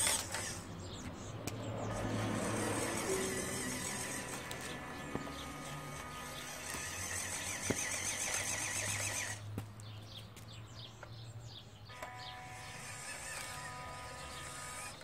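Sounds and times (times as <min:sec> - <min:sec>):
toy truck motor whining: 0:00.0 - 0:09.5, 0:11.9 - 0:15.0.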